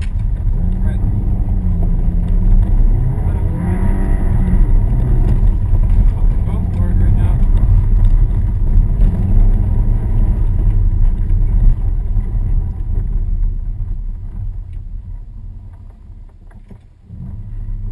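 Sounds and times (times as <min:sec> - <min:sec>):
car engine and tyre rumble: 0:00.0 - 0:17.9.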